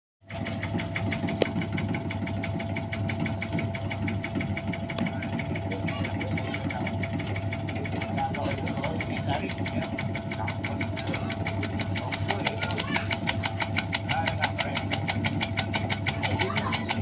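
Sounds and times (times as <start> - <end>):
engine hum with rhythmic beat: 0.2 - 17.0.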